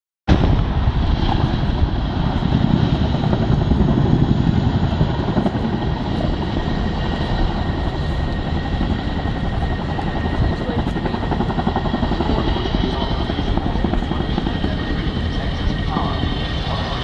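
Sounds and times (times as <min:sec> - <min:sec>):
helicopter rotor beat: 0:00.3 - 0:17.0.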